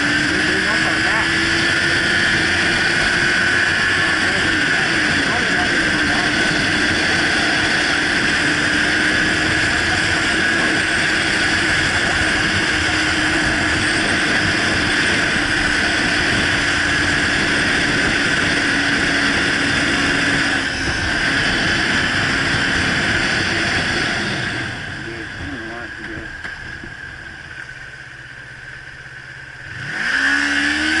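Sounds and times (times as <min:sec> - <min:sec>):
wind rushing over microphone: 0:00.0 - 0:27.6
motorcycle engine drone: 0:00.0 - 0:31.0.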